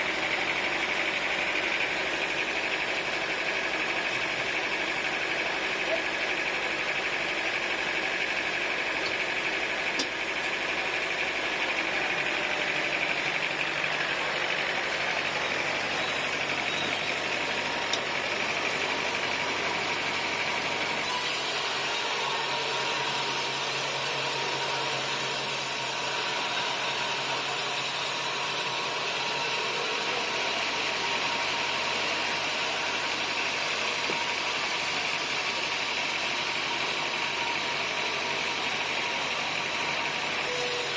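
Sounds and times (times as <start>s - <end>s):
sawmill machinery droning: 0.0s - 40.9s.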